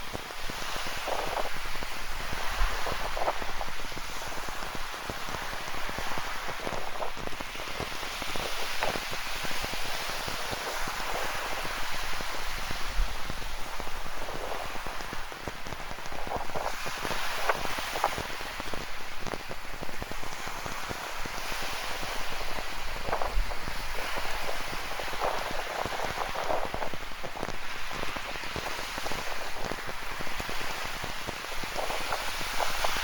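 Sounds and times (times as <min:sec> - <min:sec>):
ocean surf rushing: 0:00.0 - 0:33.0
steady rain: 0:00.0 - 0:33.0.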